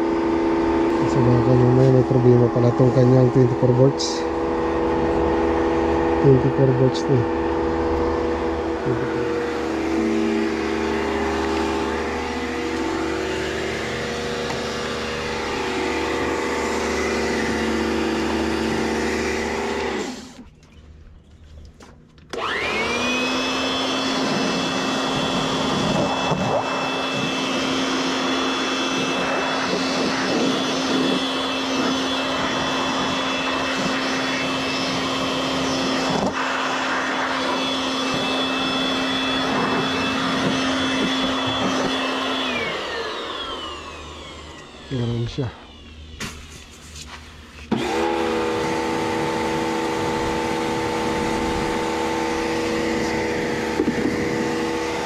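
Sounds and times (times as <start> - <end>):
electric motor whining: 0.0 - 20.8, 22.2 - 55.0.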